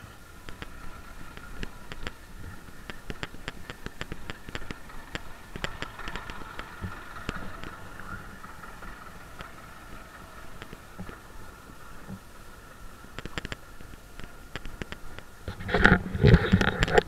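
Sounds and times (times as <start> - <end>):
harvest machinery droning: 0.0 - 17.0
sharp clicks and rattles: 0.0 - 17.0.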